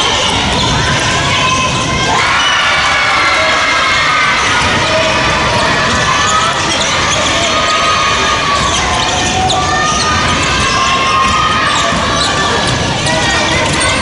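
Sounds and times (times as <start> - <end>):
sneaker squeaks: 0.0 - 2.5, 4.3 - 14.0
voices shouting and cheering: 0.0 - 14.0.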